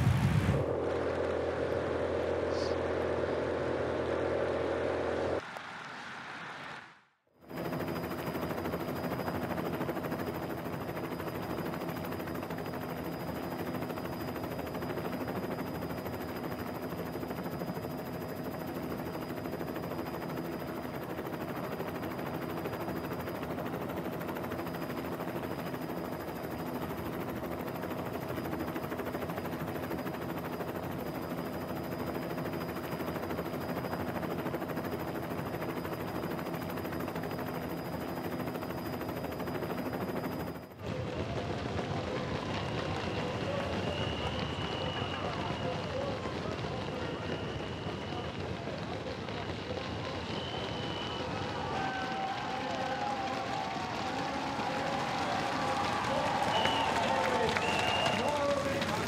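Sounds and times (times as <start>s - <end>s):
helicopter rotor and turbine: 0.0s - 5.5s, 7.4s - 59.0s.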